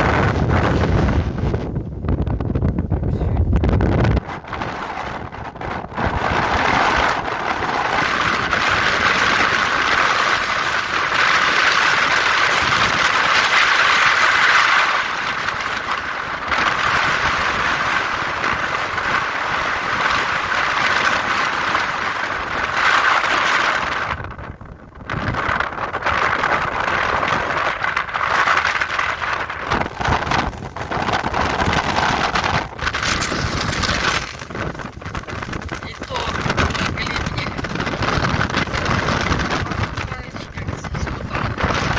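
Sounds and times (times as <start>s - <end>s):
strong wind gusting: 0.0s - 41.9s.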